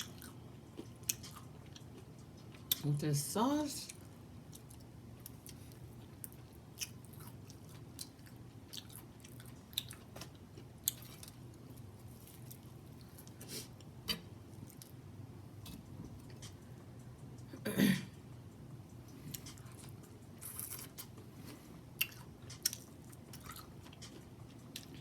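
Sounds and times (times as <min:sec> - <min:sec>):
wet chewing with crunches: 0:00.0 - 0:02.8, 0:03.9 - 0:15.0, 0:18.9 - 0:25.0.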